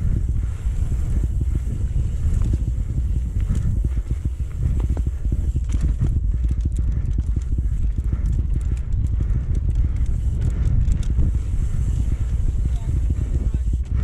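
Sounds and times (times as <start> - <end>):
bike rattling over bumps: 0.0 - 14.0
wind buffeting microphone: 0.0 - 14.0.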